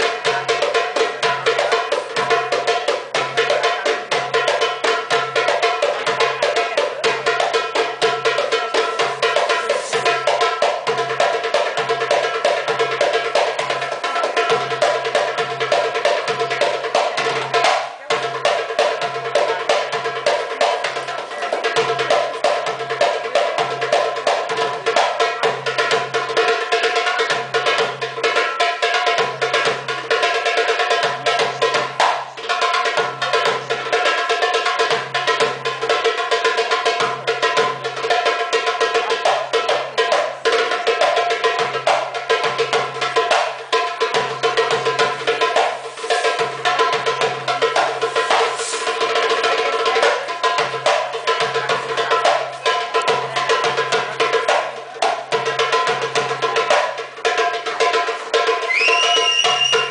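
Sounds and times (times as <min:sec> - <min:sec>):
goblet drum fast rhythm: 0:00.0 - 0:59.9.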